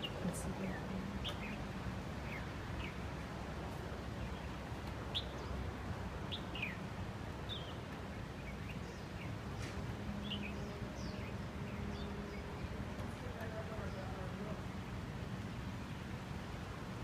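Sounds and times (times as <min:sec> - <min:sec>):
small birds chirping: 0:00.0 - 0:16.1.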